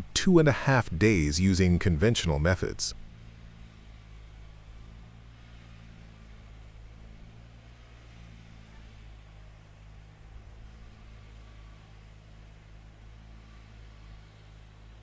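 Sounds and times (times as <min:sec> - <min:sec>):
paver engine low hum: 0:00.0 - 0:15.0.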